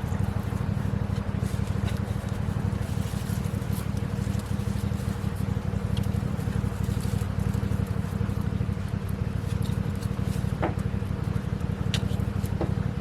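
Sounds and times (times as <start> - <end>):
engine throbbing: 0.0 - 13.0
steady hum: 0.0 - 13.0.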